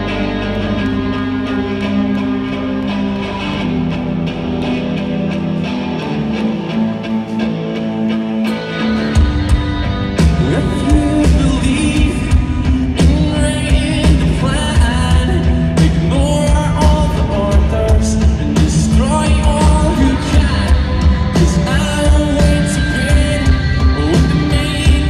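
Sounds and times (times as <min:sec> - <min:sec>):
bass guitar: 0:00.0 - 0:25.0
drums: 0:00.0 - 0:25.0
electric guitar: 0:00.0 - 0:25.0.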